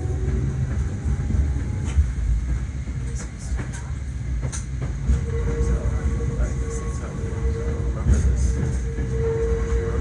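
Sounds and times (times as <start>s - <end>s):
train rumbling inside carriage: 0.0s - 10.0s.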